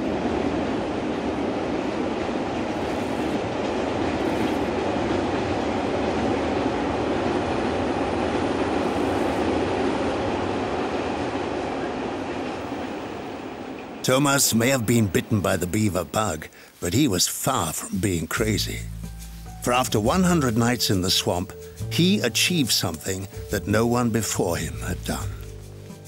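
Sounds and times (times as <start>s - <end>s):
train crossing bridge: 0.0s - 26.0s.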